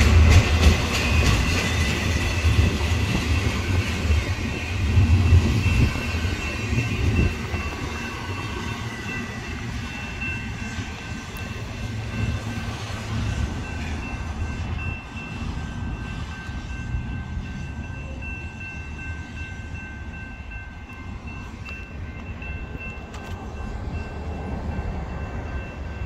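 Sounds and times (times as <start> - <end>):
high-pitched ringing: 0.0 - 26.0
train wheels rumbling on track: 0.0 - 26.0.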